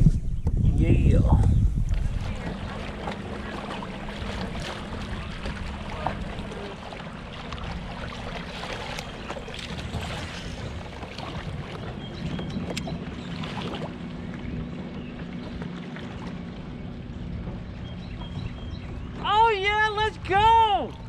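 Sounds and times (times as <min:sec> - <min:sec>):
wind on microphone: 0:00.0 - 0:21.0
water lapping and splashing: 0:00.8 - 0:21.0.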